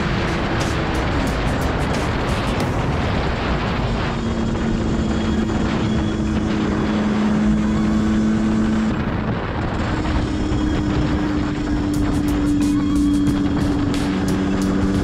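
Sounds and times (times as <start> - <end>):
two-stroke motorcycle engine: 0.0 - 15.0
wind on microphone: 0.0 - 15.0.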